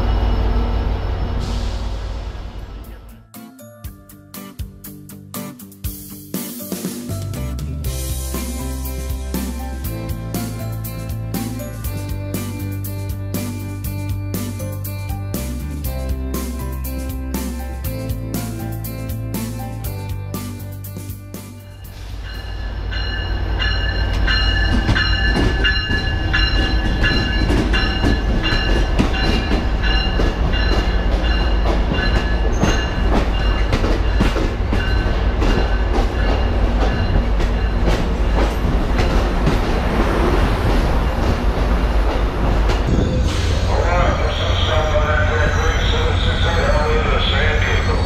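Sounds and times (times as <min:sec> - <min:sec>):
train rumbling past: 0:00.0 - 0:03.2, 0:07.8 - 0:48.0.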